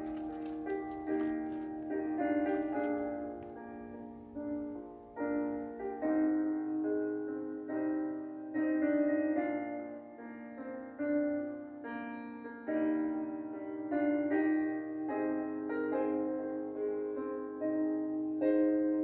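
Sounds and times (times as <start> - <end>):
slow gentle piano melody: 0.0 - 19.0.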